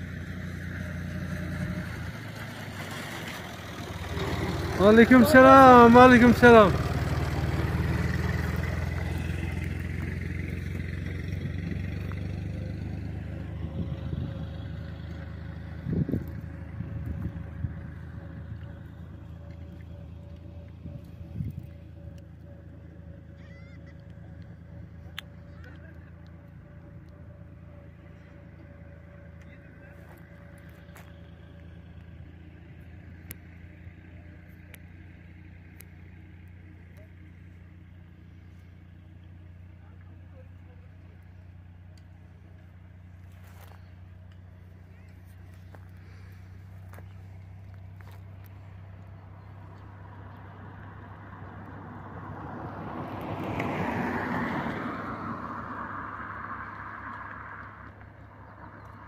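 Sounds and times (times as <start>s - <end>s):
tractor diesel engine chugging: 0.0s - 51.9s.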